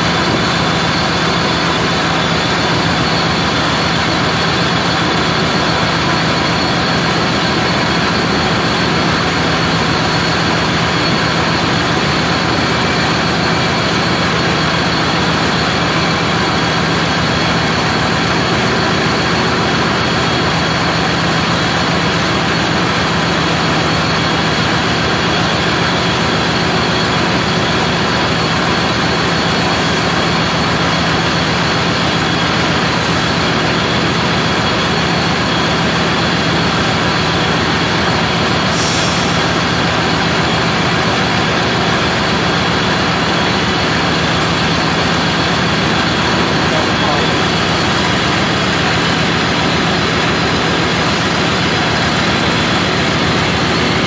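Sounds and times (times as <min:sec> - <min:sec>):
metal lathe running: 0:00.0 - 0:54.0.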